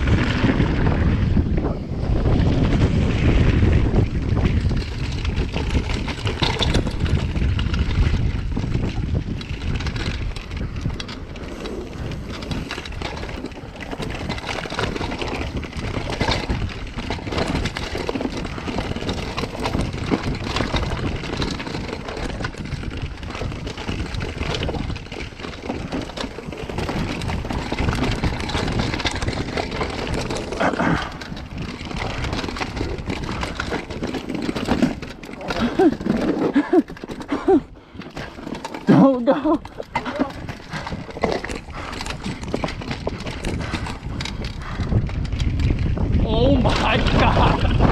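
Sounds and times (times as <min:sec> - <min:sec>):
bike rattling and knocking: 0:00.0 - 0:47.9
tyres over dirt and rocks: 0:00.0 - 0:47.9
wind rumble on microphone: 0:00.0 - 0:47.9.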